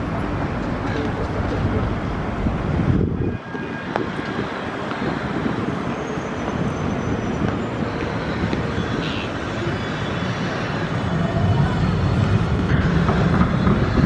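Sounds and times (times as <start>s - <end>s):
city background rumble: 0.0s - 14.0s.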